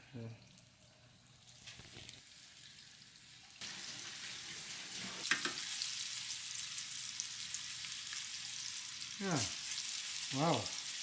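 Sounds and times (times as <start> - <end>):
fish sizzling in hot oil: 1.2 - 11.0.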